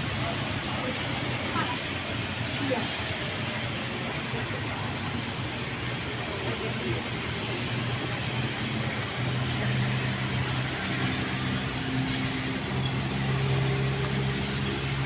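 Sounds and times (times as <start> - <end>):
rain hiss: 0.0 - 15.0
vehicle engine hum: 0.0 - 15.0.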